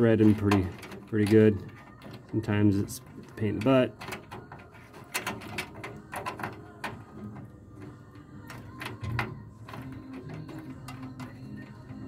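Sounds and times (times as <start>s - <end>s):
light metallic clicks and scrapes: 0.0s - 12.0s.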